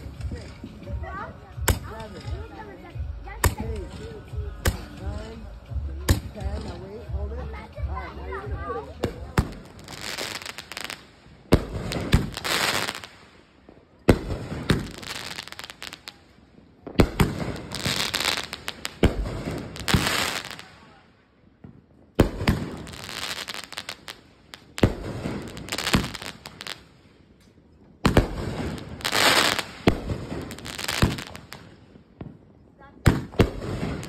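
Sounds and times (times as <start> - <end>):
fireworks popping: 0.0 - 5.4, 8.3 - 16.2, 16.8 - 21.0, 21.6 - 34.0
fireworks hissing crackle: 0.0 - 7.6, 8.2 - 21.1, 22.2 - 34.0.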